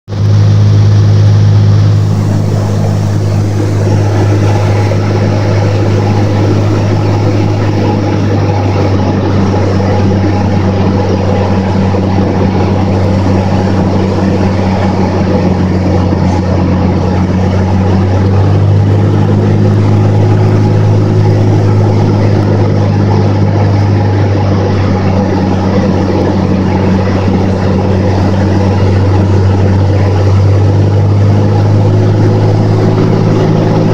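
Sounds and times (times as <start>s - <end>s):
propeller plane engine running: 0.0s - 33.9s.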